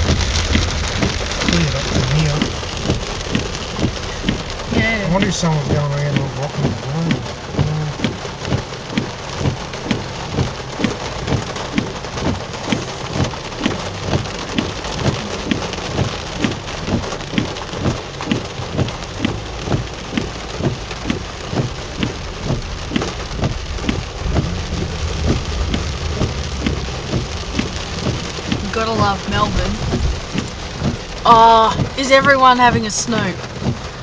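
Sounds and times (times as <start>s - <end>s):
heavy rain pouring: 0.0s - 34.0s
regular knocking: 0.1s - 31.1s.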